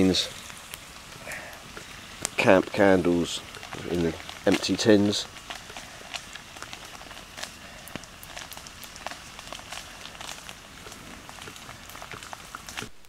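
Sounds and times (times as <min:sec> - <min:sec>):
water dripping on leaf litter: 0:00.0 - 0:13.0.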